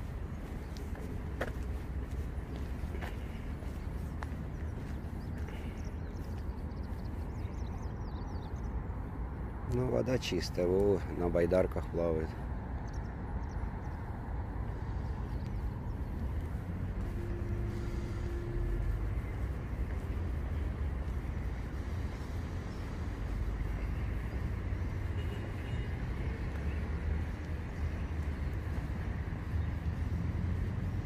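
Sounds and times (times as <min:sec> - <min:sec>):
low city rumble: 0:00.0 - 0:31.0.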